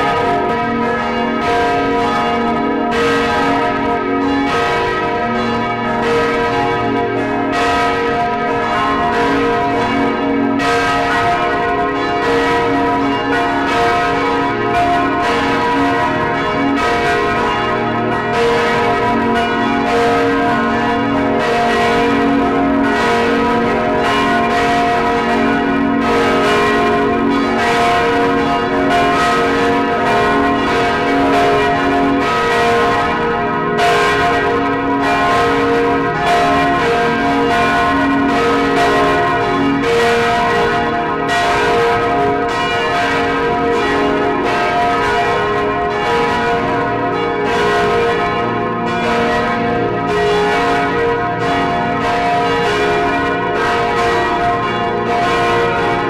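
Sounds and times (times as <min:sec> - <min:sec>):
large church bells tolling: 0:00.0 - 0:56.0.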